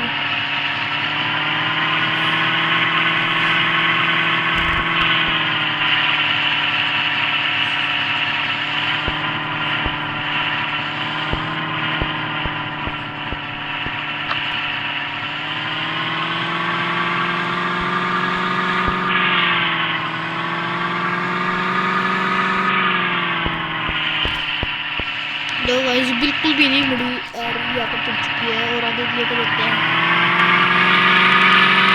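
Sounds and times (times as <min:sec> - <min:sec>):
sports car engine at low revs: 0:00.0 - 0:27.0, 0:29.3 - 0:31.9.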